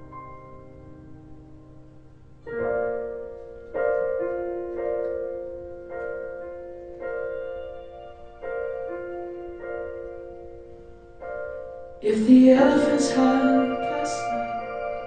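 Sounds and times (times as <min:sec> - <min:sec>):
slow electric piano chords: 0:00.0 - 0:15.0.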